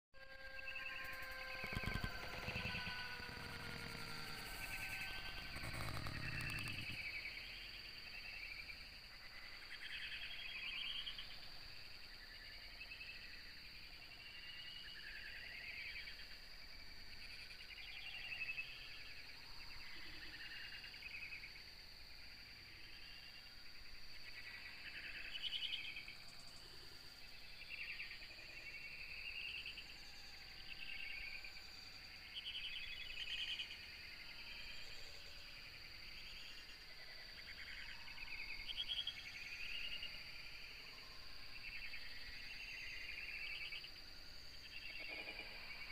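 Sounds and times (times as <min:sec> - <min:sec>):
high-pitched insect drone: 0:00.2 - 0:45.9.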